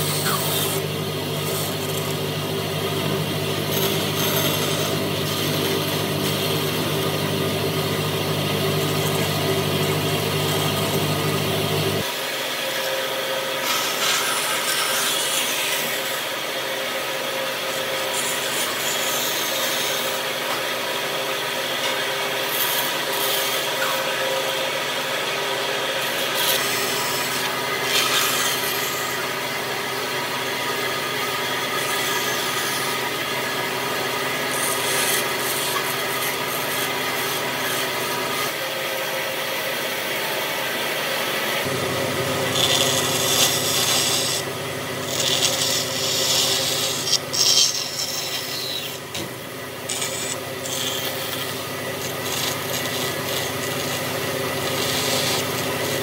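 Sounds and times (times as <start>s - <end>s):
band saw cutting wood: 0.0s - 56.0s
motor hum: 0.0s - 56.0s.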